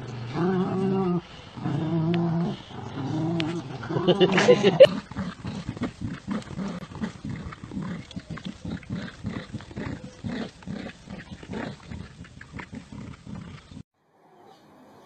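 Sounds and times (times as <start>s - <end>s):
dogs growling in play: 0.0s - 13.8s.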